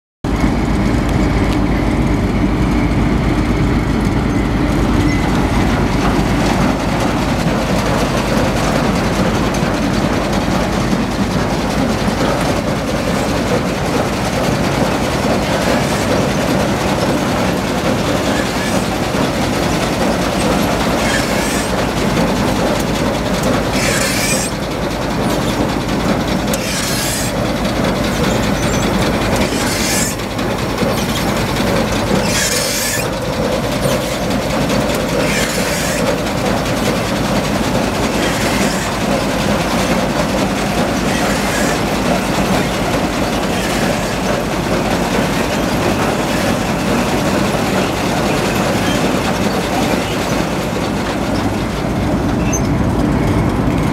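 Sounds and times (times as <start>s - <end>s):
combine mechanical clatter: 0.3s - 53.9s.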